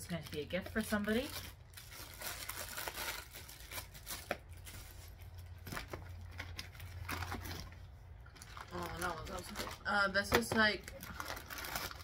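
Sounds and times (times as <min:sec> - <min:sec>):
low steady hum: 0:00.0 - 0:12.0
plastic packaging crinkling: 0:00.0 - 0:12.0.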